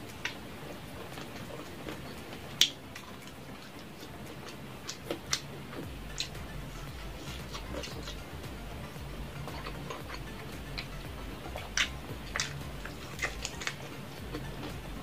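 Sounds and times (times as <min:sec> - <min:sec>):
low steady hum: 0:00.0 - 0:15.0
person chewing with mouth smacks: 0:00.1 - 0:15.0.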